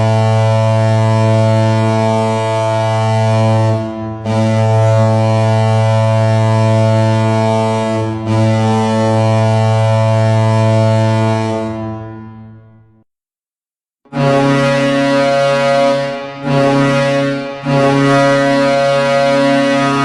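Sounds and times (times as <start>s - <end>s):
deep goal horn blasts: 0.0s - 12.0s, 14.1s - 20.0s.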